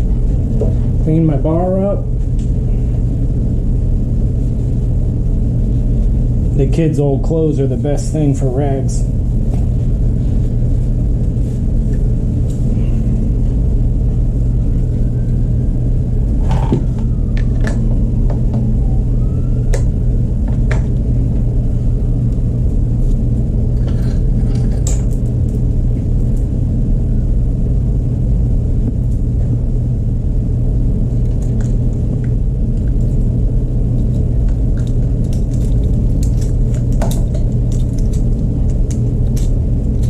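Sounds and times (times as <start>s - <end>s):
machine running rumble: 0.0s - 40.0s.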